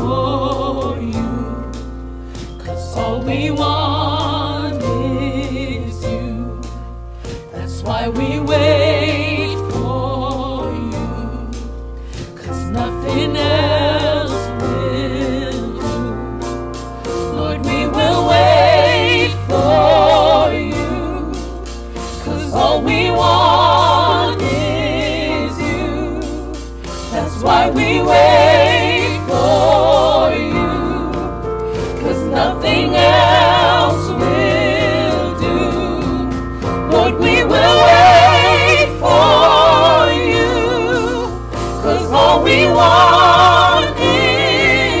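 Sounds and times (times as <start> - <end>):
drums keyboard and bass: 0.0 - 45.0
voices singing gospel song: 0.0 - 45.0.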